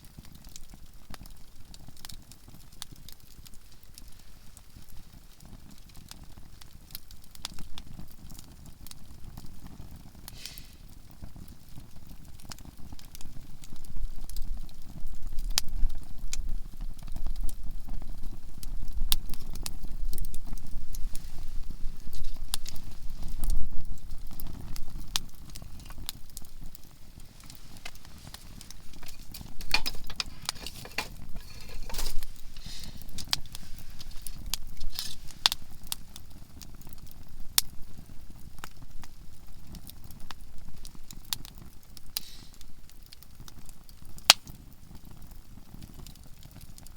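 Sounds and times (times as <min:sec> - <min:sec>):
low rumble of burning fire: 0:00.0 - 0:46.9
campfire pops and snaps: 0:00.1 - 0:46.9.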